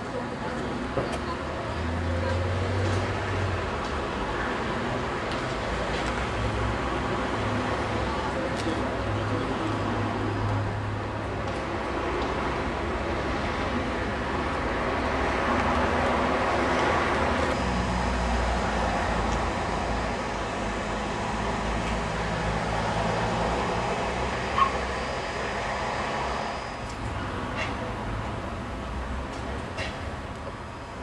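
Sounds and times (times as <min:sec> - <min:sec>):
standing trains rumbling and hissing: 0:00.0 - 0:31.0.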